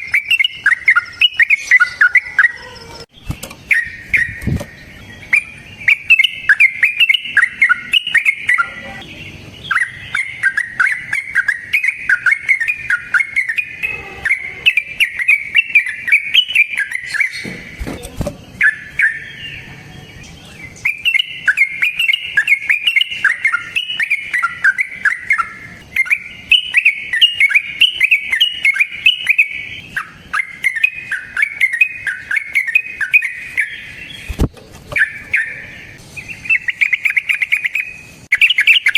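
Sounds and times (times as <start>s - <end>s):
bird singing chirpy notes: 0.0s - 38.9s.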